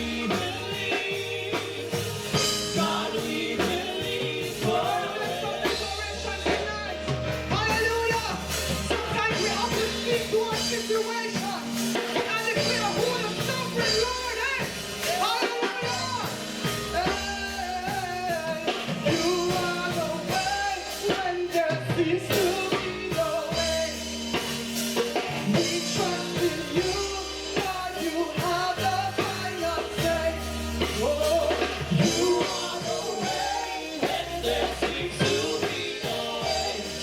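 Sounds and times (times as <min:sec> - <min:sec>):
bass guitar: 0:00.0 - 0:37.0
drum kit: 0:00.0 - 0:37.0
group singing gospel: 0:00.0 - 0:37.0.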